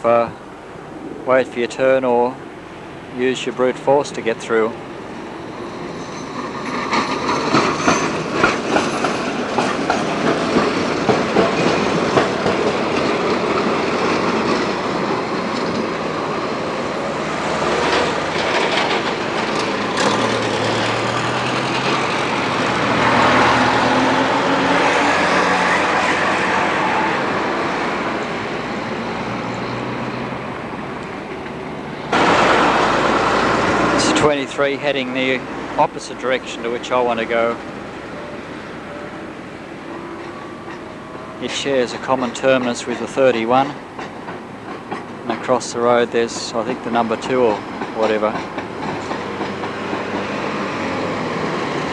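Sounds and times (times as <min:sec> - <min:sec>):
tram wheels clattering over rail joints: 0:02.4 - 0:51.9.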